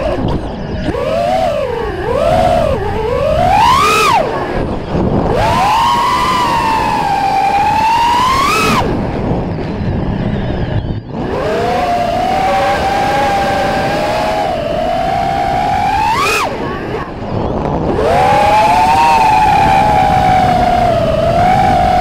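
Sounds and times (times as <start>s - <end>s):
drone motors whining: 0.0s - 22.0s
wind rush on microphone: 0.0s - 22.0s.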